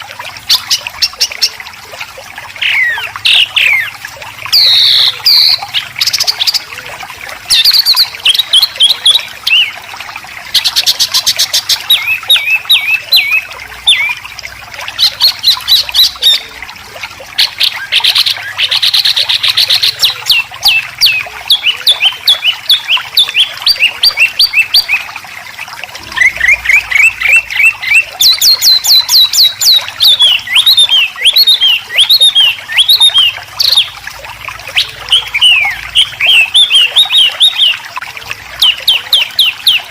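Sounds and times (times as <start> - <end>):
bird song with harsh phrases: 2.6 - 9.8, 10.5 - 14.3, 14.9 - 16.6, 17.4 - 25.1, 26.0 - 34.0, 34.7 - 39.9.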